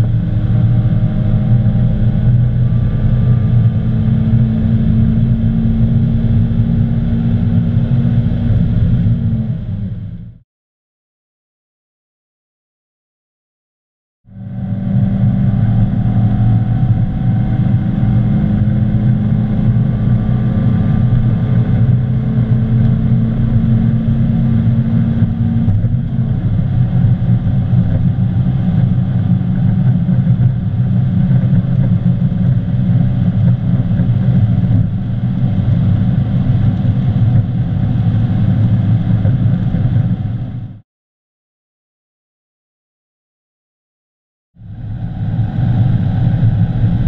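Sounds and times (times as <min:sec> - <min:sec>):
car engine at high revs: 0:00.0 - 0:10.4, 0:14.3 - 0:40.8, 0:44.6 - 0:47.0
wind and road noise: 0:00.0 - 0:10.4, 0:14.3 - 0:40.8, 0:44.6 - 0:47.0.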